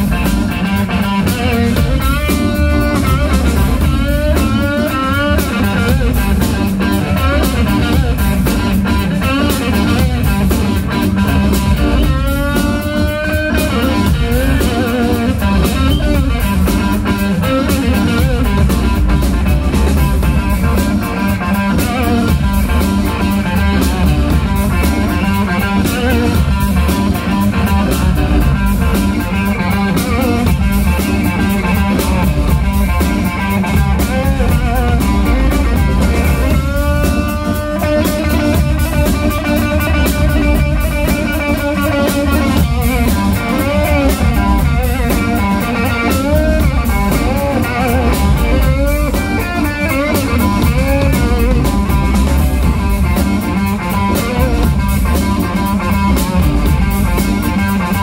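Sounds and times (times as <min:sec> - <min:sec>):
drum kit steady beat: 0:00.0 - 0:58.0
electric guitar lead lines: 0:00.0 - 0:58.0
organ: 0:00.0 - 0:58.0.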